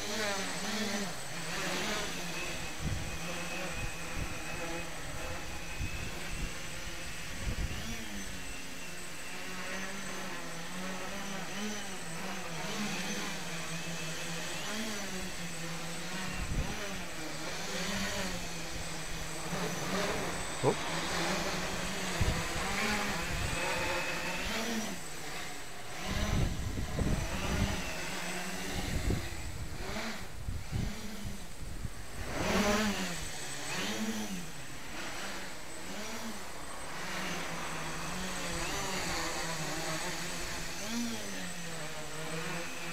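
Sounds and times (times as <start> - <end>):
quadcopter propellers buzzing: 0.0 - 42.9.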